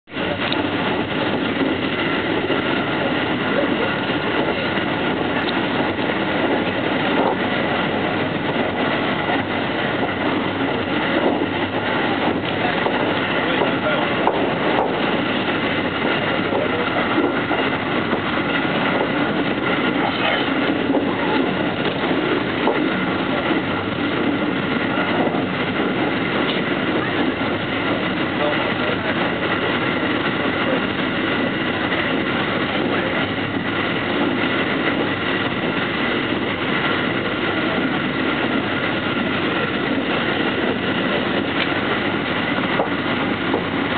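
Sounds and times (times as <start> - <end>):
electric train running: 0.1 - 43.9.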